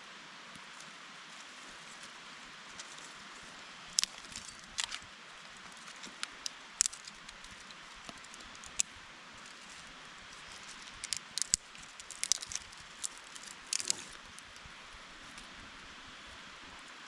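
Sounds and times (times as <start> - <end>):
steady hiss: 0.0 - 17.0
campfire crackles and snaps: 0.5 - 15.9.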